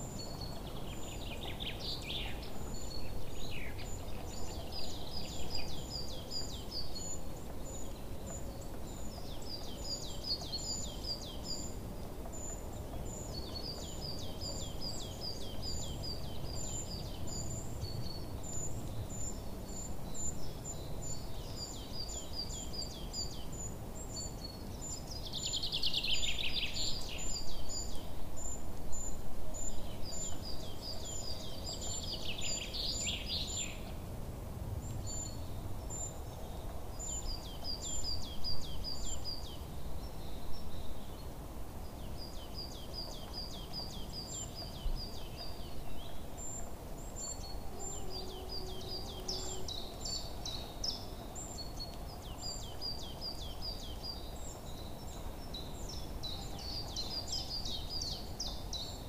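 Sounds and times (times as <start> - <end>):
background hiss: 0.0 - 59.0
songbirds chirping: 0.0 - 59.0.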